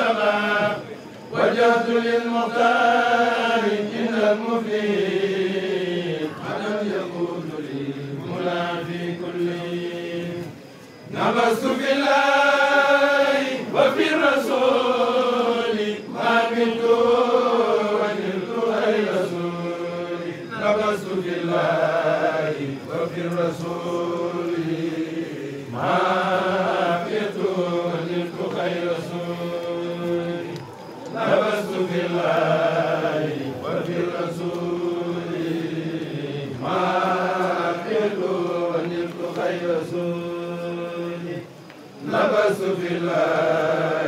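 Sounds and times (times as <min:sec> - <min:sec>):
men chanting unaccompanied: 0:00.0 - 0:44.0.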